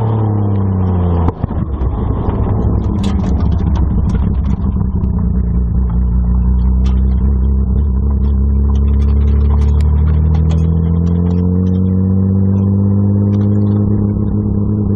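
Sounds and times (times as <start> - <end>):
car exhaust at low revs: 0.0 - 14.9.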